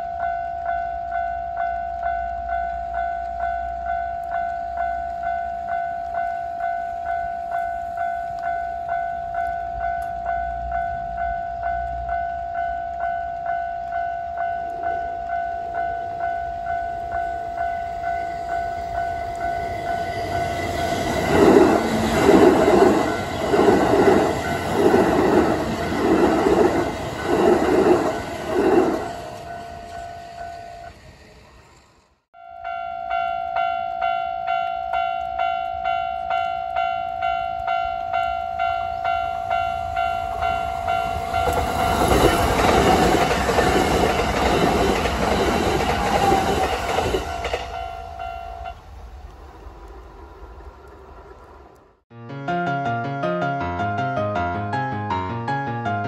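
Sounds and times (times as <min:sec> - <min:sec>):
crossing warning bells ringing: 0:00.0 - 0:49.0
train wheels clacking on rails: 0:01.9 - 0:32.1, 0:33.6 - 0:48.8.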